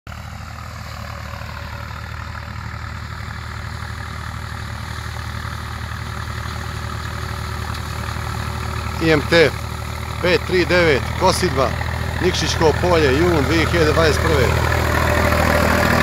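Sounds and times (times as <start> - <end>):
tractor diesel engine running: 0.1 - 16.0.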